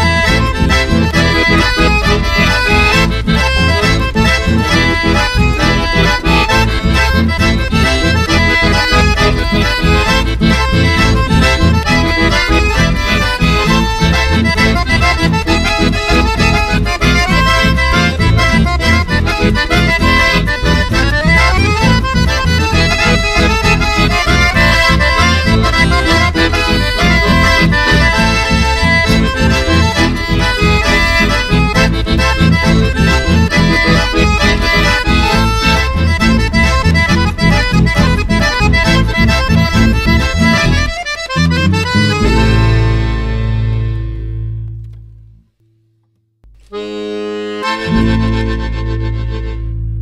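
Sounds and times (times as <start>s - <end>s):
button accordions playing melody: 0.0s - 45.0s, 46.5s - 49.8s
guitar accompaniment: 0.0s - 45.6s, 46.4s - 50.0s.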